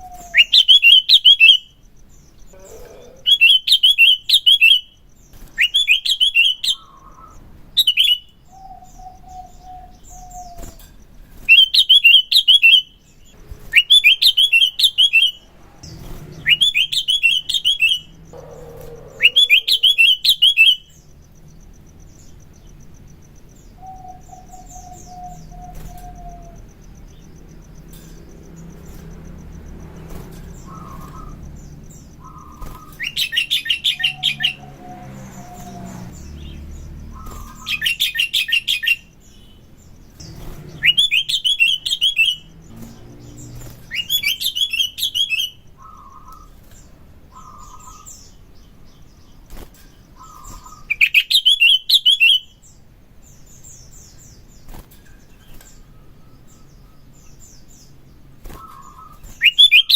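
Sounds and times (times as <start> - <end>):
bulbul singing rapid notes: 0.0 - 49.5.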